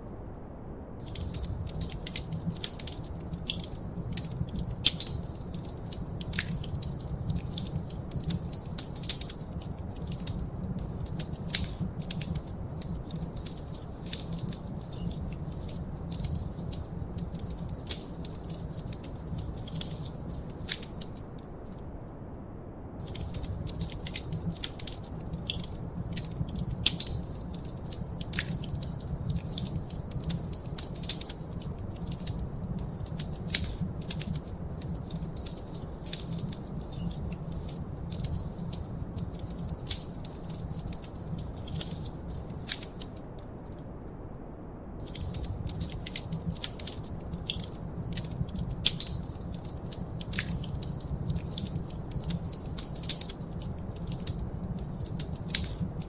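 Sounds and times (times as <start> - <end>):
wood fire crackling: 1.0 - 22.0, 23.0 - 44.1, 45.0 - 56.0.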